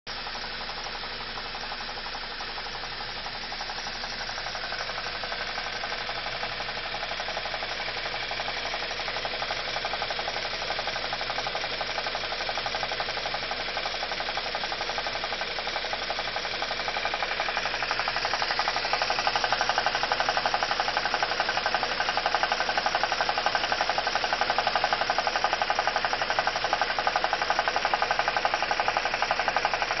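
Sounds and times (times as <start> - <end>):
engine ticking clatter: 0.1 - 30.0.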